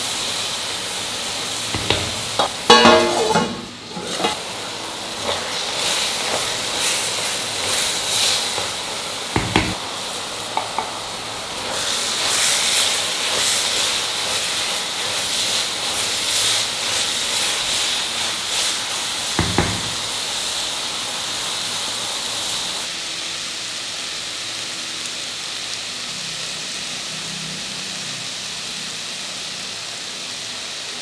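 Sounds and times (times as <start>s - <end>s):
vegetables sizzling in a pan: 0.0s - 31.0s.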